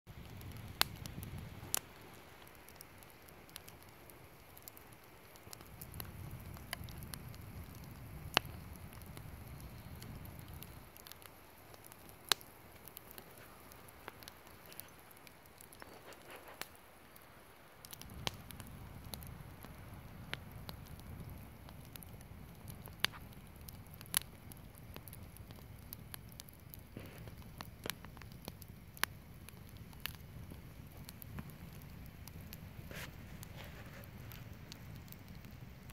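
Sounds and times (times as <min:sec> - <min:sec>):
campfire crackling: 0:00.1 - 0:35.9
fire popping: 0:00.1 - 0:35.9.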